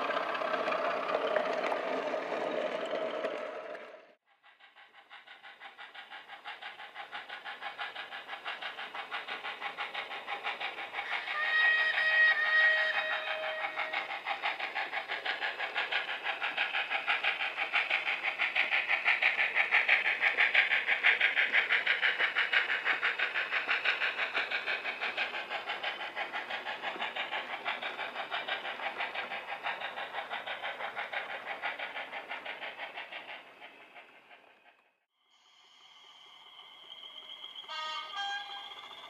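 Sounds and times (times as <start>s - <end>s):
model train rhythmic clatter: 0.0s - 35.1s, 35.8s - 39.0s.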